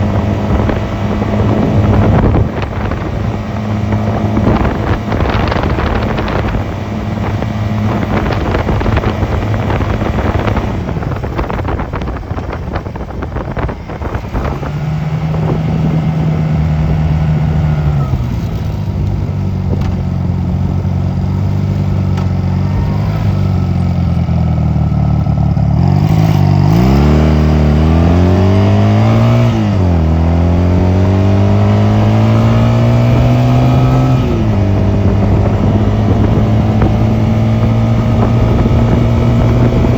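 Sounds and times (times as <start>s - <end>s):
wind buffeting microphone: 0.0s - 24.9s, 25.5s - 39.9s
motorcycle engine: 0.0s - 39.9s.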